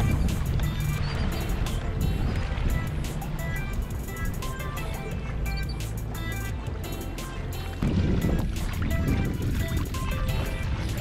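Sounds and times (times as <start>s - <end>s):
music with steady beat: 0.0s - 11.0s.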